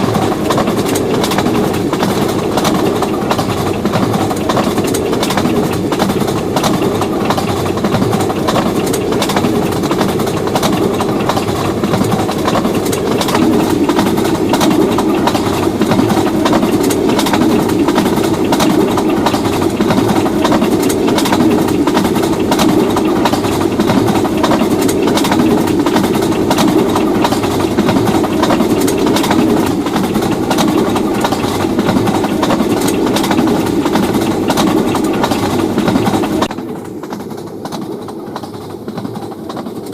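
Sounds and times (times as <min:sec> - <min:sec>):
diesel locomotive engine rumbling: 0:00.0 - 0:39.9.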